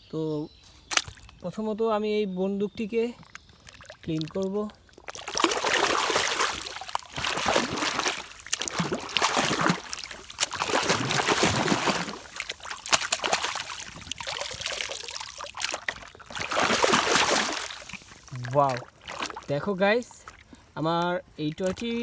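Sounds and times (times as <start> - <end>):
water sloshing and splashing: 0.8 - 1.5, 3.0 - 22.0.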